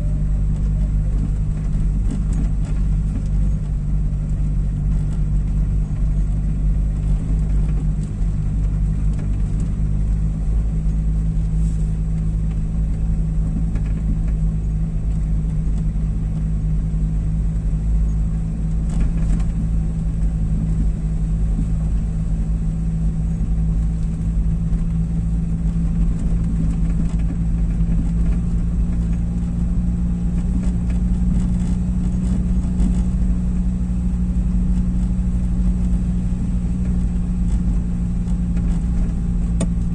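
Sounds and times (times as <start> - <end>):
car engine hum: 0.0 - 39.9.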